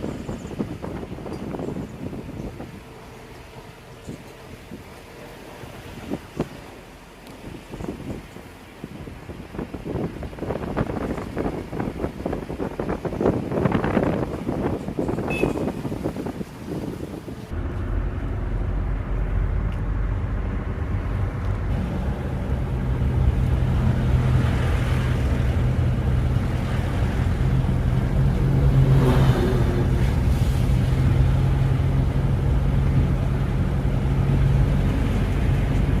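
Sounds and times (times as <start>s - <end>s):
vehicle engine and road rumble: 0.0s - 36.0s.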